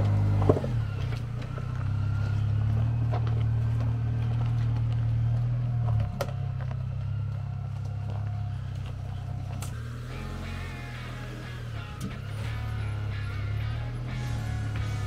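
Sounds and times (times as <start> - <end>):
truck engine running low: 0.0 - 15.0.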